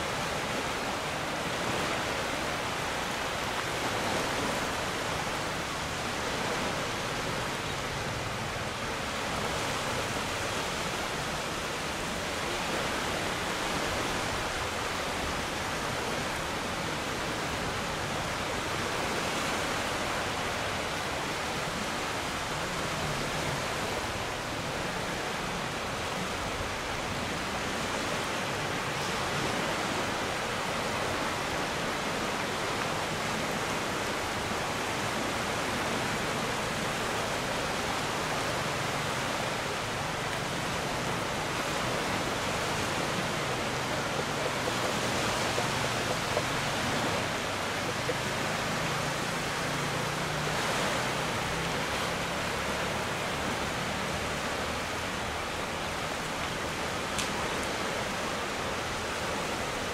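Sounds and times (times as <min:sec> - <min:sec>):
wind and water rushing: 0:00.0 - 0:59.9.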